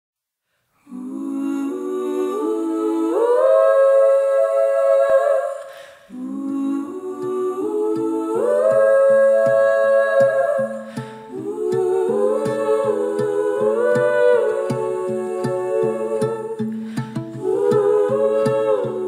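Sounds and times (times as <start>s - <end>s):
a cappella humming: 0.8s - 19.0s.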